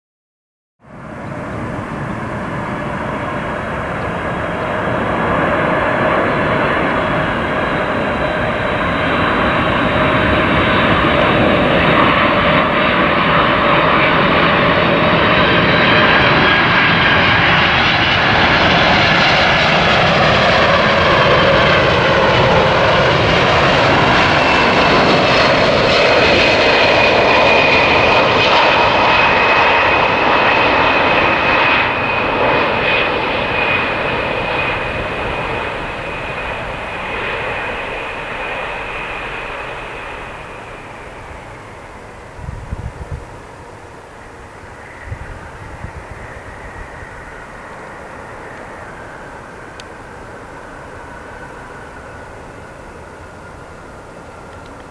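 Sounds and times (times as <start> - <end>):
jet engines rumbling and whining: 0.8 - 54.9.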